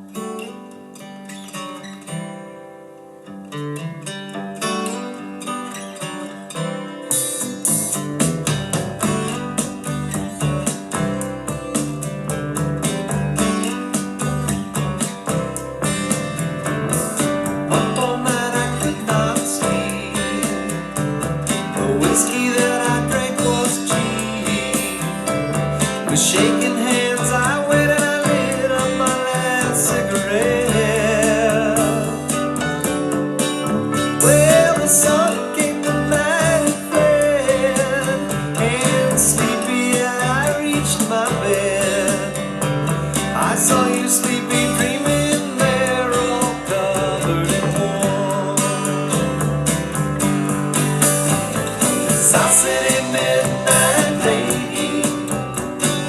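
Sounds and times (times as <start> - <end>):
country-rock song: 0.0 - 56.0
strummed acoustic guitar: 0.0 - 56.0.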